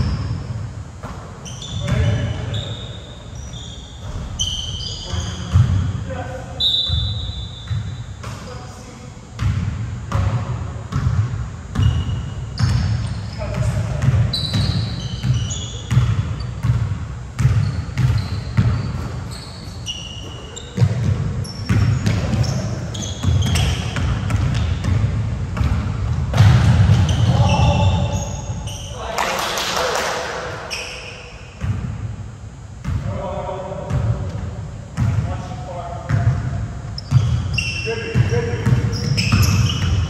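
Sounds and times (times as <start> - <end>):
basketball bouncing on court: 0.0 - 2.7, 3.6 - 6.0, 6.7 - 8.6, 9.4 - 28.8, 31.6 - 32.1, 32.8 - 33.2, 33.8 - 40.0
sneaker squeaks: 0.0 - 31.8, 33.9 - 40.0.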